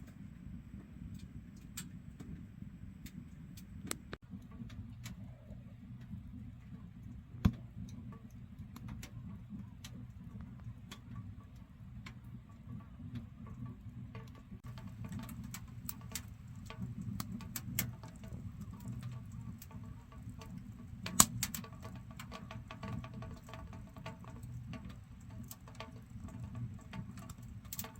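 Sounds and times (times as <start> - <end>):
firewood crackling and popping: 0.0 - 27.9
low steady stove rumble: 0.0 - 27.9.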